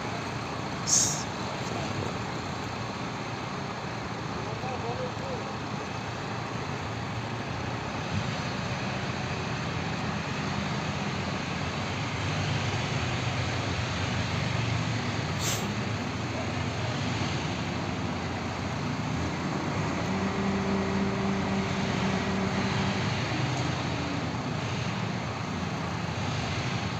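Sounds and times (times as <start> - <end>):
heavy engine running: 0.0 - 26.9.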